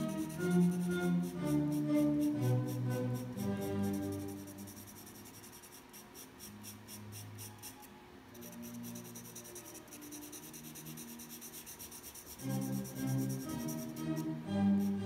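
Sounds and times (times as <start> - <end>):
soft music: 0.0 - 5.5, 6.4 - 15.0
pencil scratching on paper: 0.0 - 15.0.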